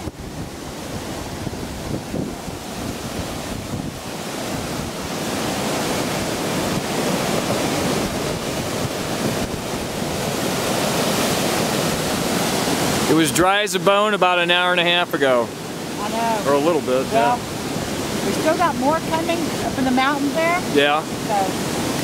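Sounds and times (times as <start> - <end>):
flood water rushing: 0.0 - 22.0.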